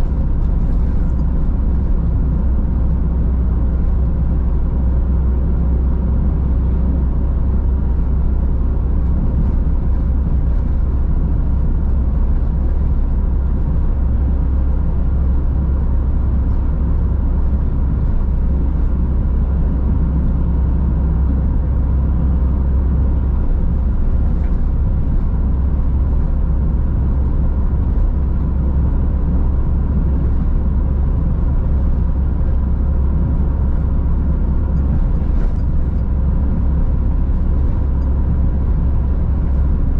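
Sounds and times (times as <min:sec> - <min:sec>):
car engine: 0:00.0 - 0:39.9
tyres rumbling on road: 0:00.0 - 0:39.9.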